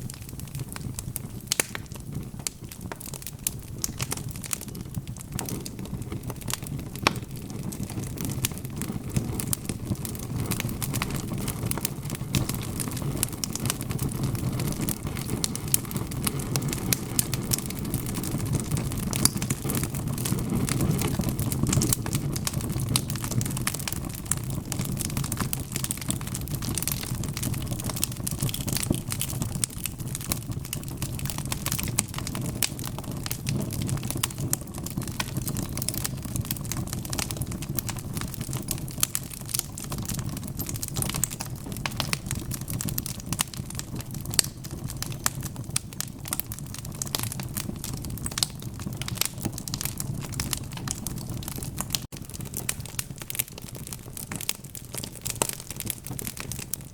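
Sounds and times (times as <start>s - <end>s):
burning logs crackling and popping: 0.0s - 56.9s
low rumble of flames: 0.0s - 56.9s.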